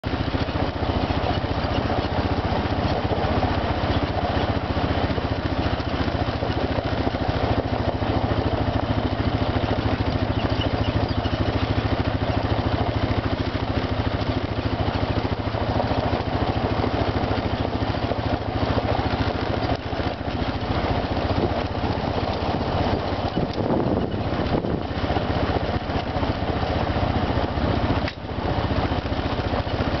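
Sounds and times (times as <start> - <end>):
atv engine running steadily: 0.0 - 30.0.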